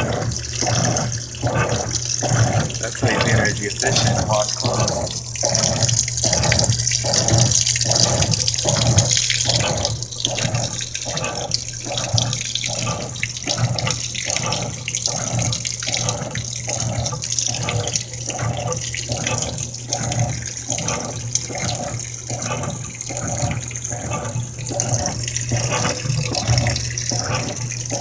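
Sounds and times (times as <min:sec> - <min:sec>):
low motor hum: 0:00.0 - 0:28.0
washing machine agitating: 0:00.0 - 0:28.0
water pouring in: 0:00.0 - 0:28.0.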